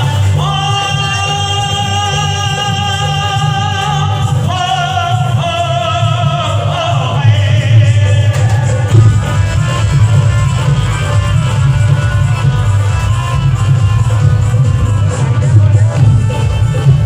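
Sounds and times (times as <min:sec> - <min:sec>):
low musical accompaniment: 0:00.0 - 0:17.0.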